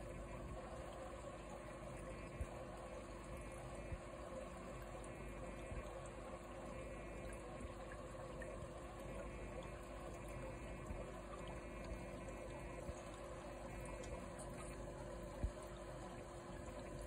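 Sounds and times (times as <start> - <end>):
aquarium filter water flowing: 0.0 - 17.0.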